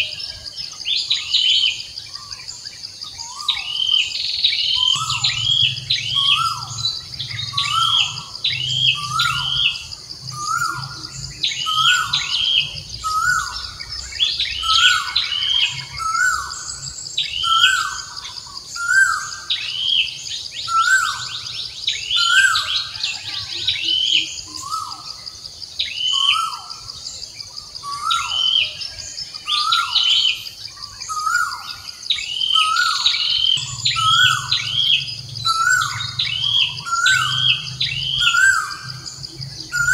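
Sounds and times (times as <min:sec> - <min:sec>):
birds calling and chirping: 0:00.0 - 0:39.9
high insect drone: 0:00.0 - 0:39.9.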